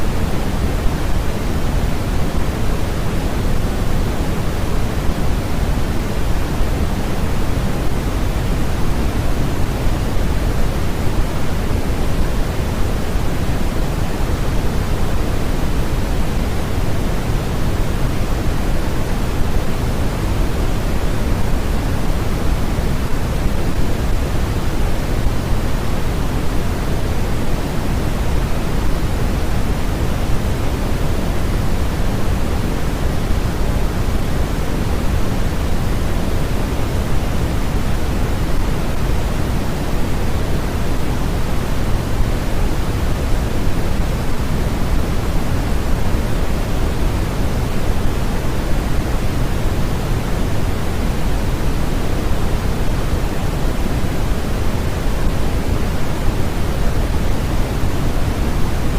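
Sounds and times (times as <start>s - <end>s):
steady white noise hiss: 0.0s - 58.9s.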